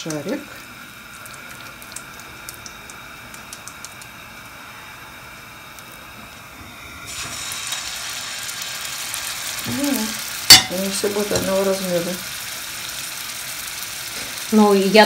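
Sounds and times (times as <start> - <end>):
hot oil hissing and crackling: 0.0 - 15.0
meat sizzling in oil: 0.0 - 15.0.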